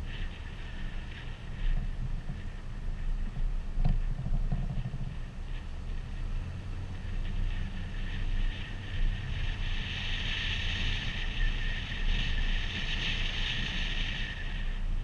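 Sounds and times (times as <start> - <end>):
car road noise: 0.0 - 15.0
high hiss with thin whine: 0.0 - 15.0
wind rumble: 0.0 - 15.0.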